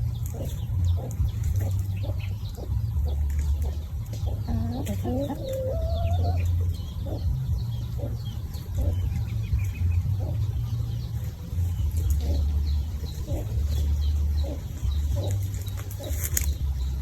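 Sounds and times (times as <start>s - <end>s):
chickens clucking: 0.0s - 17.0s
small birds chirping: 0.0s - 17.0s
steady low rumble: 0.0s - 17.0s.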